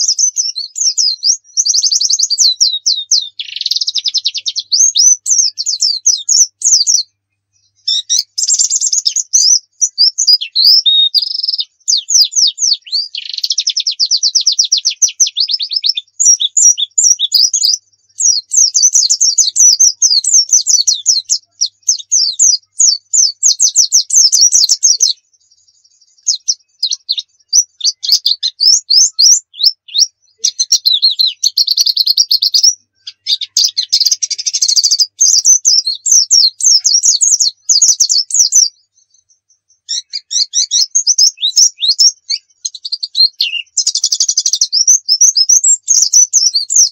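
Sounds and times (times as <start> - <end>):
bird singing rapid high chirps: 0.0 - 46.9.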